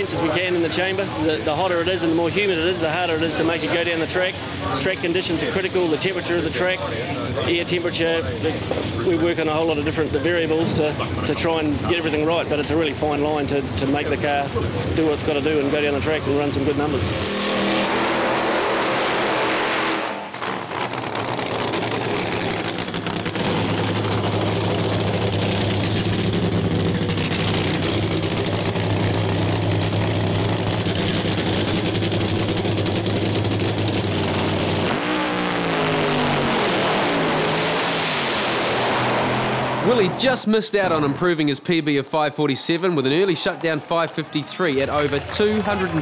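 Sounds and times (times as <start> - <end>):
drag racing car engine roaring: 0.0 - 46.0.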